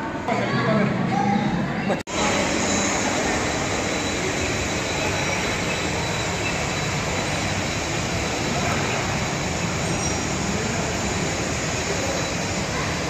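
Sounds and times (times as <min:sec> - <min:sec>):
faint high whine: 0:02.1 - 0:13.0.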